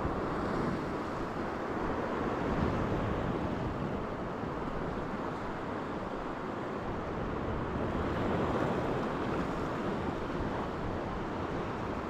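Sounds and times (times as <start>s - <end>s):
surf washing on shore: 0.0s - 12.0s.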